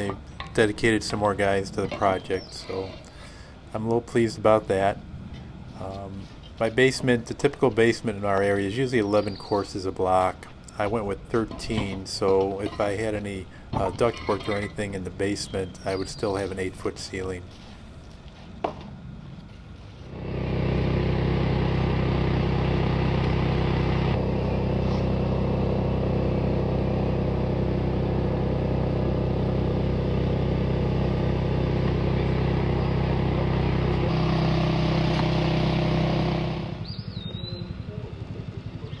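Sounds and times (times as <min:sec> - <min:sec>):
engine running steadily: 0:00.0 - 0:16.8, 0:18.7 - 0:39.0.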